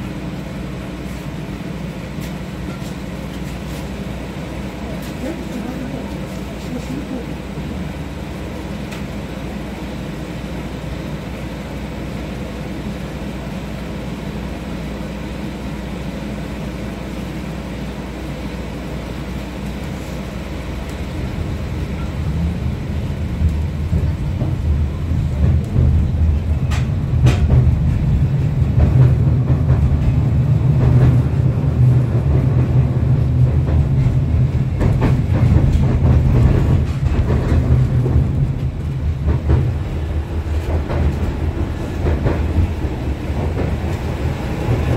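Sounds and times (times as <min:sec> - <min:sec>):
tram interior hum: 0:00.0 - 0:44.9
wheels rumbling on rails: 0:00.0 - 0:44.9.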